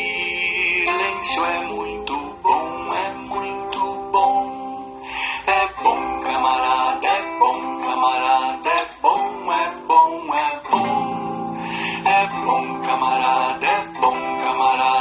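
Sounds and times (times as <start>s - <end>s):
plucked string instrument tune: 0.0s - 15.0s.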